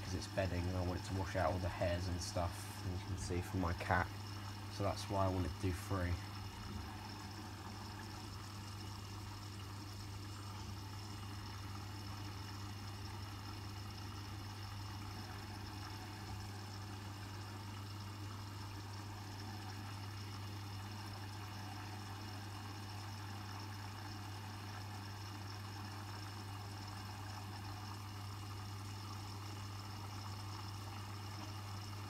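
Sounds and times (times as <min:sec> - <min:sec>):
water flowing into washing machine: 0:00.0 - 0:32.0.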